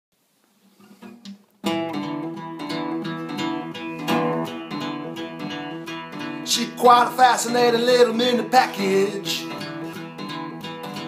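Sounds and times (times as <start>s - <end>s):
strummed acoustic guitar: 0.7s - 11.0s.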